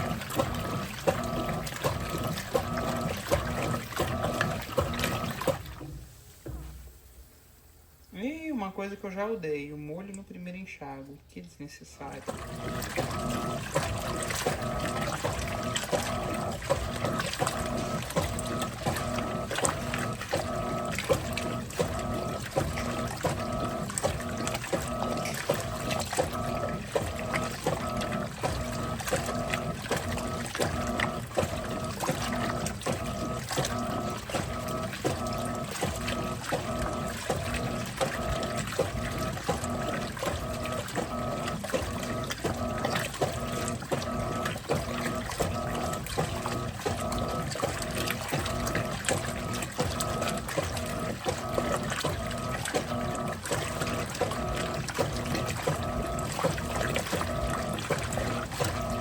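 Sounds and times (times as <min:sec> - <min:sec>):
water sloshing: 0:00.0 - 0:06.8, 0:09.8 - 0:59.0
washing machine motor humming: 0:00.0 - 0:59.0.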